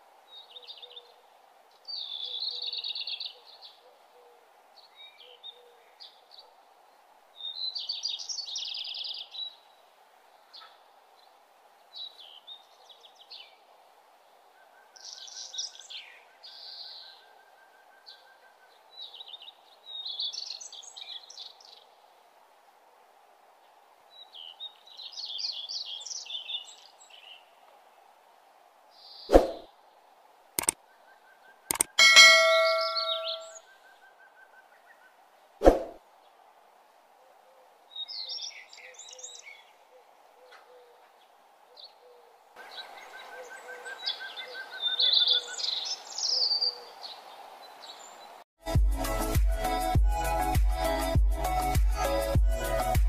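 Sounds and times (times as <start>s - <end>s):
faint background hiss: 0.0s - 48.5s
songbird chirping: 0.2s - 36.6s, 37.3s - 48.4s.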